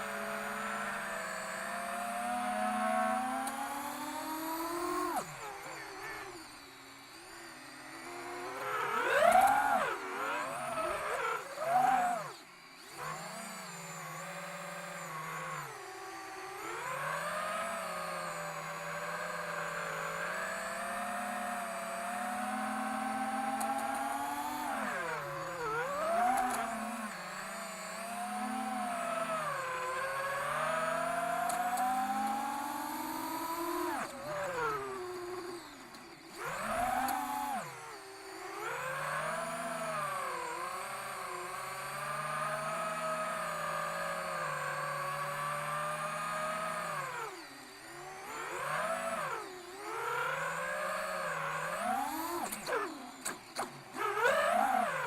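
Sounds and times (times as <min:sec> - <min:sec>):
drone motor whining: 0:00.0 - 0:55.0.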